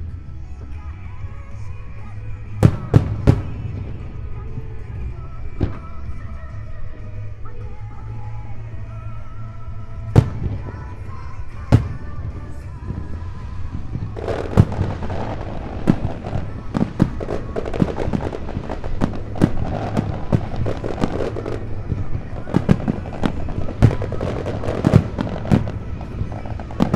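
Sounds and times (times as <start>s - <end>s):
faint music: 0.0s - 26.9s
fireworks bangs: 0.0s - 26.9s
fireworks crackling: 0.0s - 26.9s.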